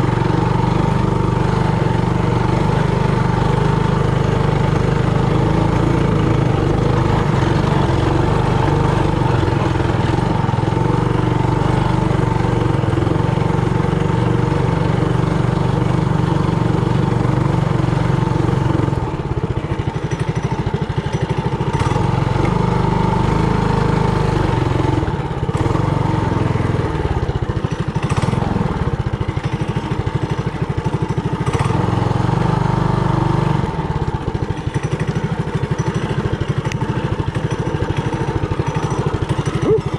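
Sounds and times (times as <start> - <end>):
mini bike engine running: 0.0 - 39.9.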